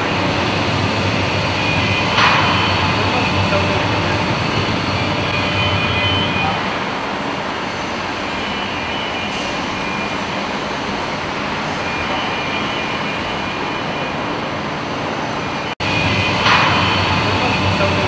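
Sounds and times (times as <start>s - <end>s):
machinery rumble and hiss: 0.0s - 18.0s.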